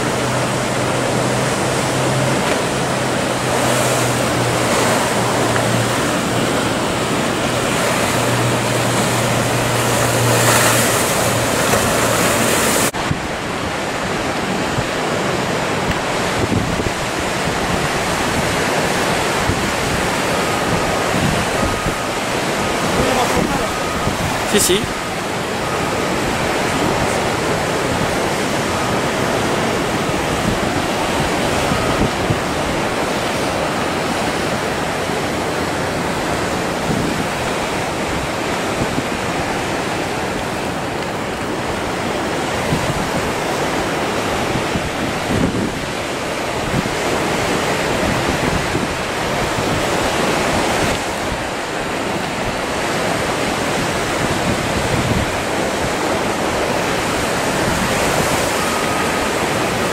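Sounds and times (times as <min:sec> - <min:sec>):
sea surf breaking: 0:00.0 - 0:59.9
wind buffeting microphone: 0:00.0 - 0:59.9.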